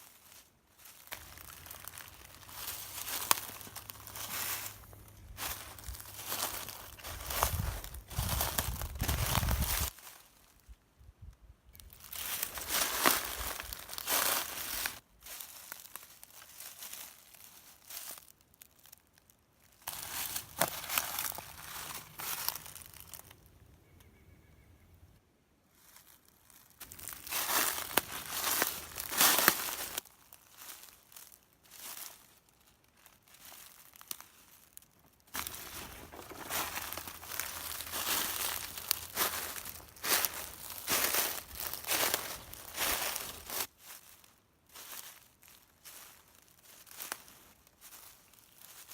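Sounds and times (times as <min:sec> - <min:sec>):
footsteps crunching through leaves: 0:00.0 - 0:10.6, 0:11.9 - 0:18.9, 0:19.8 - 0:23.3, 0:25.8 - 0:48.9.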